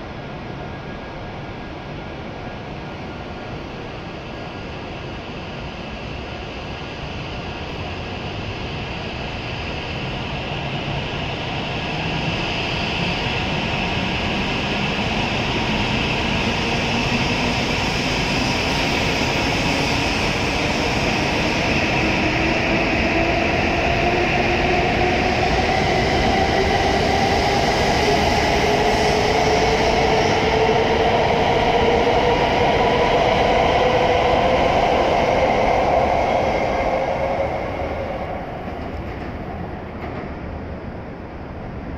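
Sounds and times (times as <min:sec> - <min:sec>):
train running noise: 0:00.0 - 0:41.9.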